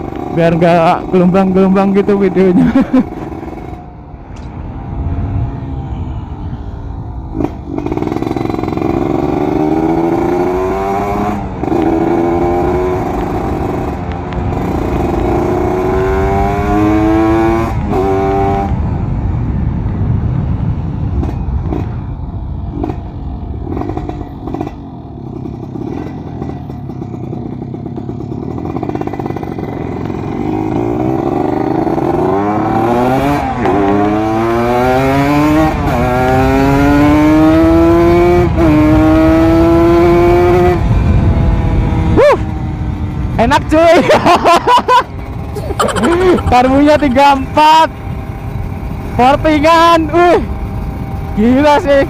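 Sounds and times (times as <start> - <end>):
motorcycle engine revving through gears: 0.0 - 5.1, 7.3 - 18.8, 21.1 - 43.8, 44.4 - 52.0.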